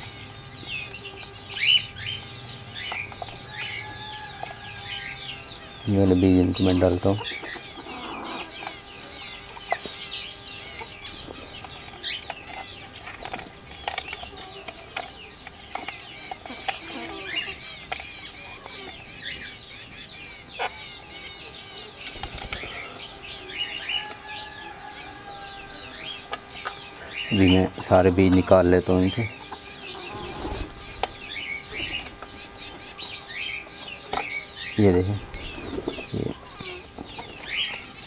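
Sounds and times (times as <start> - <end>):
chickens clucking: 0.0 - 38.0
parakeets chirping: 0.0 - 38.0.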